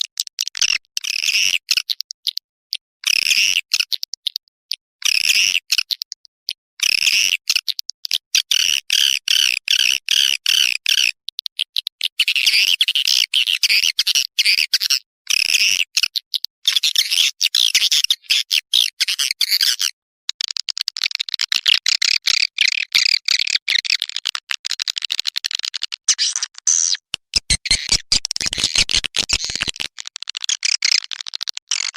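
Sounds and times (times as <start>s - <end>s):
fast clicking chatter: 0.0s - 2.5s, 3.1s - 18.3s, 20.3s - 31.9s
recorded bird chattering twitters: 0.0s - 31.9s.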